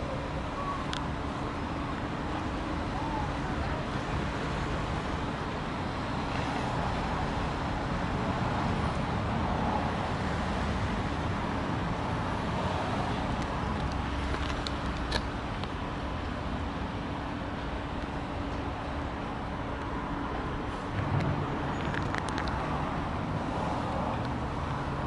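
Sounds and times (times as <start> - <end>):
outdoor background rumble: 0.0 - 25.0.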